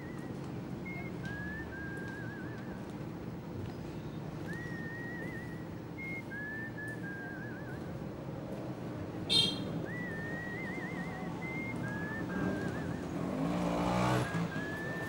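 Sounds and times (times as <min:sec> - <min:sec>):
person whistling a melody: 0:00.0 - 0:02.9, 0:04.4 - 0:08.0, 0:09.3 - 0:15.0
low background murmur: 0:00.0 - 0:15.0.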